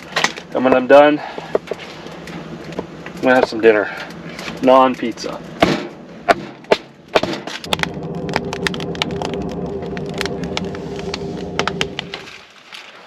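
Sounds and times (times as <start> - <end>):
steady low hum: 0.0 - 12.5
dry wood cracking and snapping: 0.0 - 13.0.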